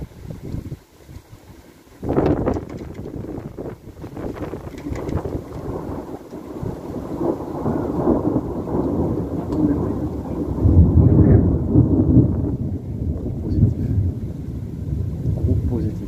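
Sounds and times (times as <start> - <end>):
thunder rumbling: 2.0 - 16.0.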